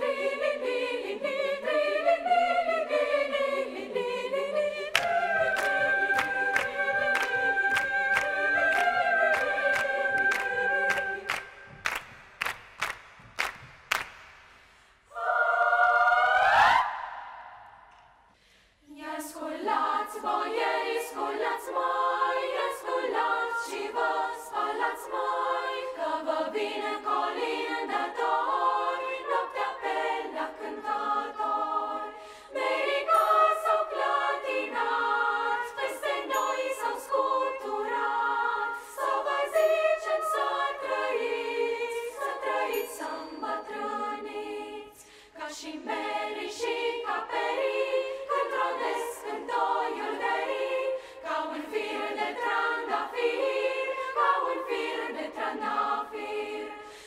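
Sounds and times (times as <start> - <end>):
children's choir singing: 0.0 - 12.0, 15.1 - 18.0, 18.9 - 57.0.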